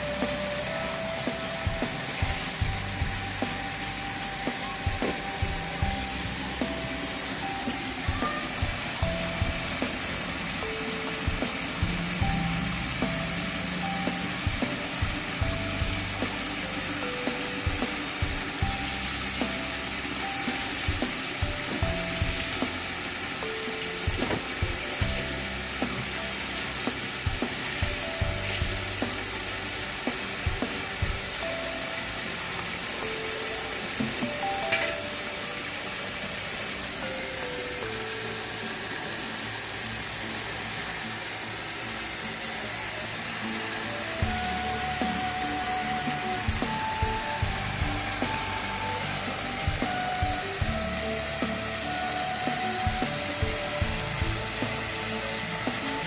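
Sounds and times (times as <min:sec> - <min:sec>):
background music with bass line: 0:00.0 - 0:37.2, 0:43.2 - 0:56.0
water pouring into a bucket: 0:00.0 - 0:56.0.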